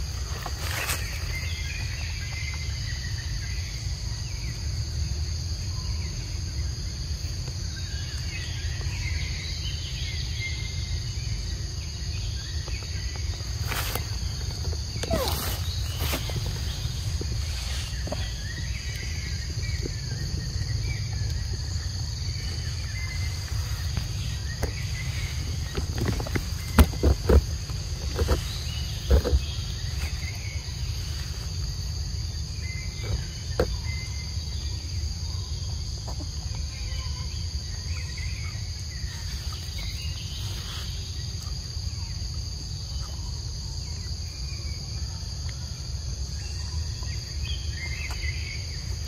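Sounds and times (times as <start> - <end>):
high-pitched insect drone: 0.0 - 45.3.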